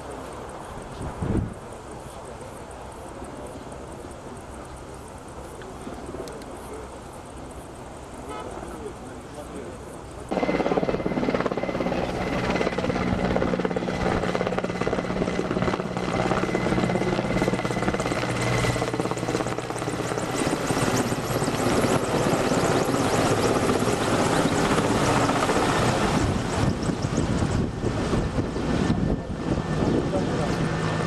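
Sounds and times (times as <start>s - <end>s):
helicopter rotor and turbine: 0.0s - 31.0s.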